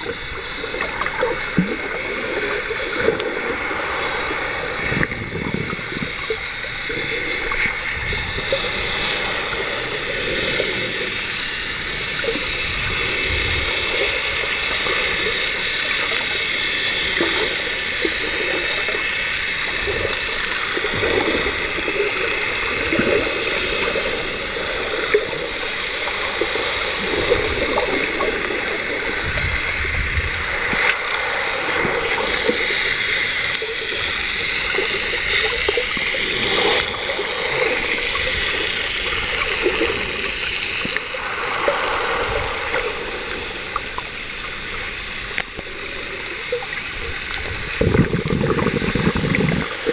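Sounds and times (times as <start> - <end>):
water gurgling and sloshing: 0.0 - 49.9.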